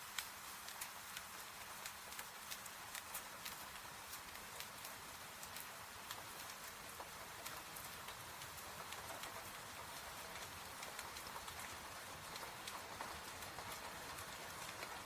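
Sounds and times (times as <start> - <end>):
fire crackling and popping: 0.0 - 15.0
steady rain hiss: 0.0 - 15.0.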